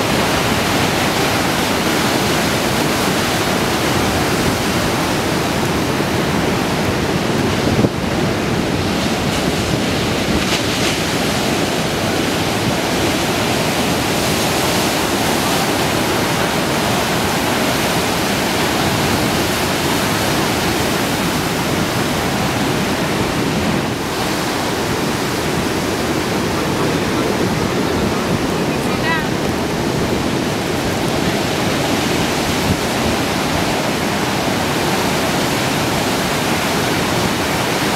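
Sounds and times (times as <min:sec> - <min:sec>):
waves breaking: 0:00.0 - 0:37.9.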